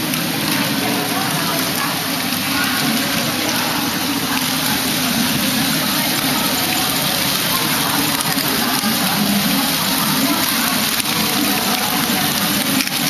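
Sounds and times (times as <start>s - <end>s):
plastic balls clattering: 0.0s - 13.0s.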